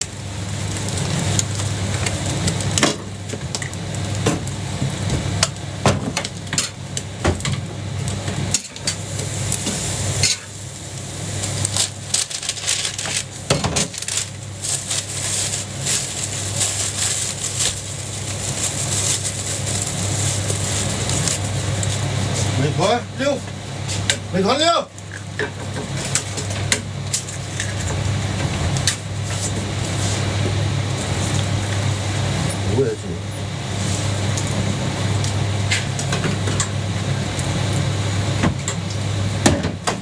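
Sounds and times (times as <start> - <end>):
sizzling: 0.0 - 24.3, 25.0 - 39.4.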